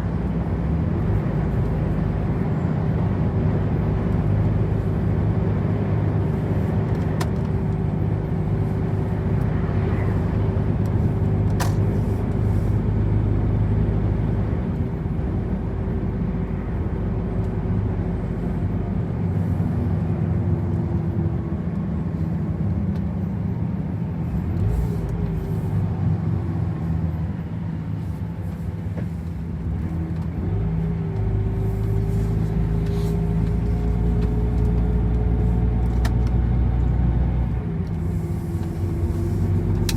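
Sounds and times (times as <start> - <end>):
engine whine: 0.0 - 39.9
road noise: 0.0 - 39.9
truck engine drone: 0.0 - 39.9.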